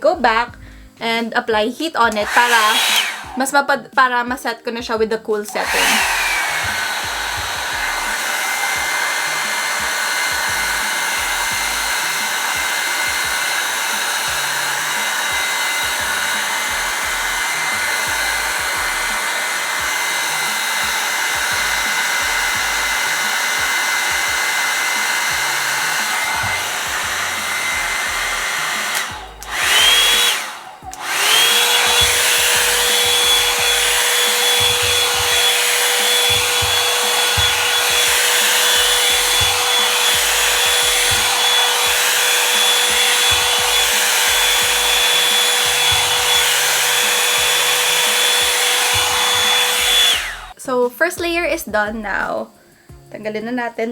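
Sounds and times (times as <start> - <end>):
hair dryer brush whining: 2.0 - 3.8, 5.4 - 50.6.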